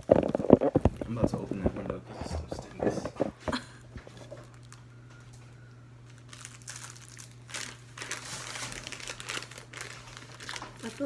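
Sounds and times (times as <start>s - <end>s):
plastic packaging crinkling: 0.0s - 3.3s, 4.0s - 5.4s, 6.0s - 11.0s.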